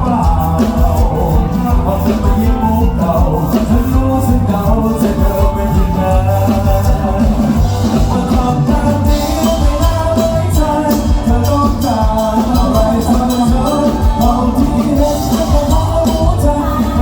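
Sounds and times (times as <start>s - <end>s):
heavy bass: 0.0s - 17.0s
live band music: 0.0s - 17.0s
steady drum beat: 0.0s - 17.0s.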